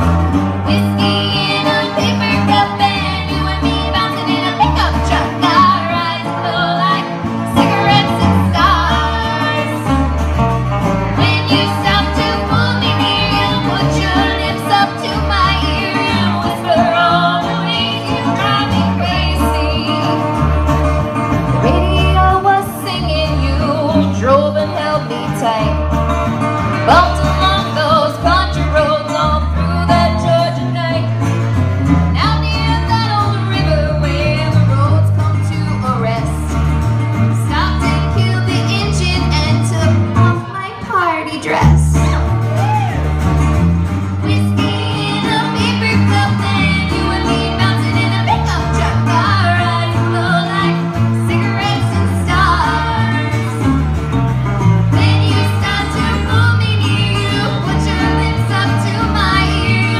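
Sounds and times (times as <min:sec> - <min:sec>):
guitar: 0:00.0 - 0:59.9
woman singing country song: 0:00.0 - 0:59.9.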